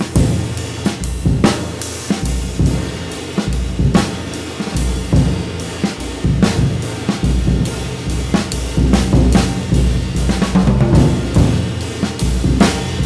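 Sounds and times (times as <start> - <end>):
drum kit groove: 0.0 - 13.0
ride cymbal: 0.0 - 13.0.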